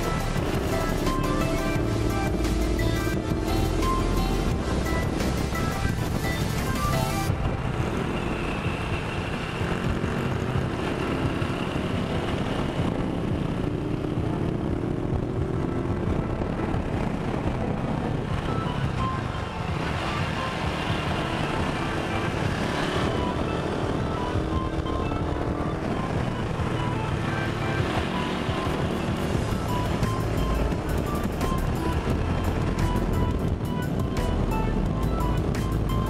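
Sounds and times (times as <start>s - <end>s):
background music: 0.0s - 36.0s
motorcycle engine rumble: 0.0s - 36.0s.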